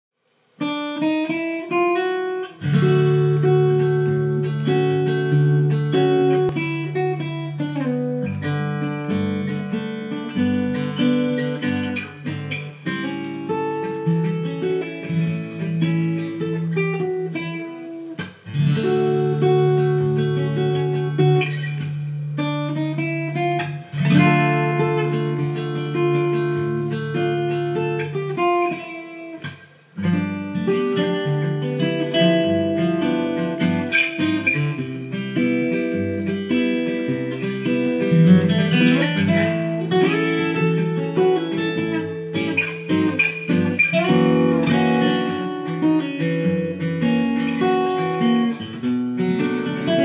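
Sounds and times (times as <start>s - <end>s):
fingerpicked acoustic guitars: 0.6s - 50.0s.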